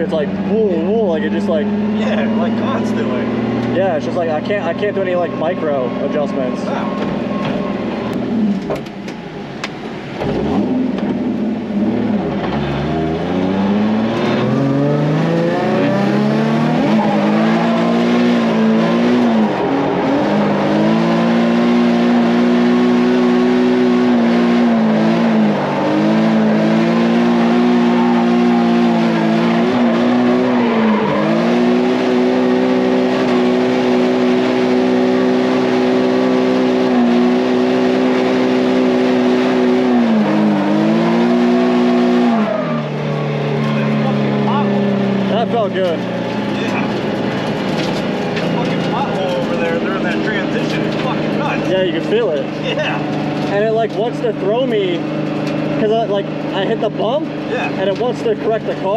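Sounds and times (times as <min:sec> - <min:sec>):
car engine revving hard: 0:00.0 - 0:08.7, 0:10.0 - 0:58.9.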